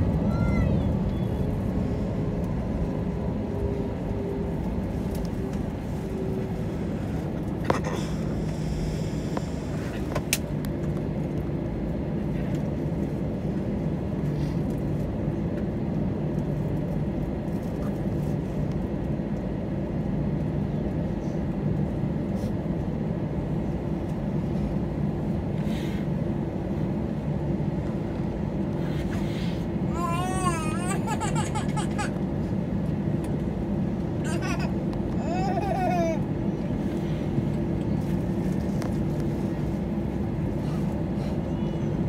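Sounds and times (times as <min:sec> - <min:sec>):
jet engine cabin hum: 0:00.0 - 0:42.0.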